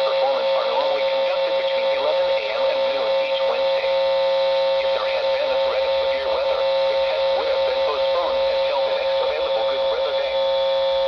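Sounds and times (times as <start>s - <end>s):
automated voice over radio speaker: 0.0s - 10.5s
steady electrical hum: 0.0s - 11.0s.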